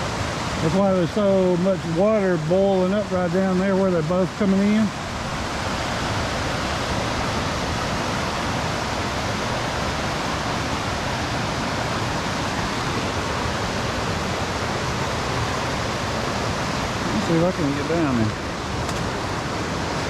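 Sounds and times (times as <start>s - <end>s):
roar of churning whitewater: 0.0s - 20.0s.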